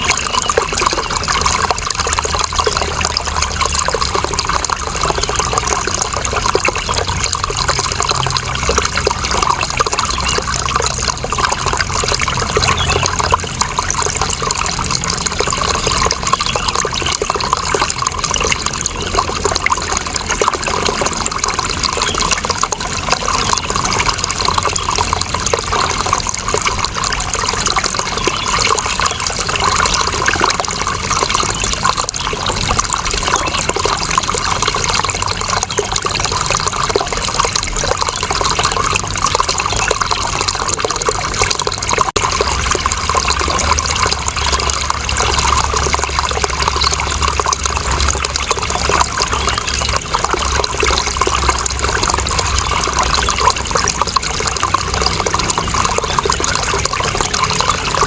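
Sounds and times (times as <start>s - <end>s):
water flowing and trickling: 0.0s - 58.0s.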